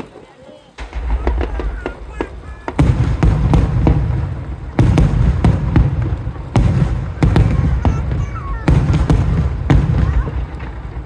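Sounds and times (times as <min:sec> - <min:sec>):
fireworks crackling: 0:00.0 - 0:11.0
fireworks booming: 0:00.7 - 0:11.0.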